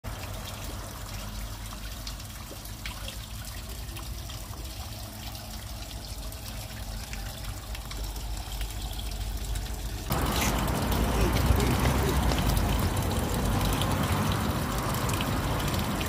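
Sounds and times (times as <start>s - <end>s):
water trickling down rocks: 0.0s - 16.0s.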